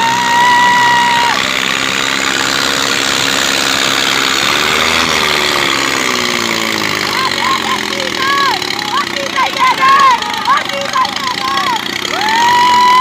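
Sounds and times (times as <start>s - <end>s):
diesel tractor engines running: 0.0s - 13.0s.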